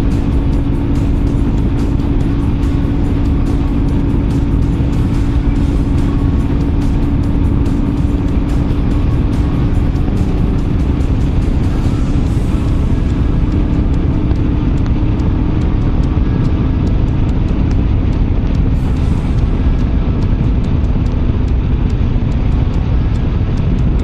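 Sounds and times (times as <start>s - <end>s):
motorcycle engine droning: 0.0s - 24.0s
wind rumble on microphone: 0.0s - 24.0s.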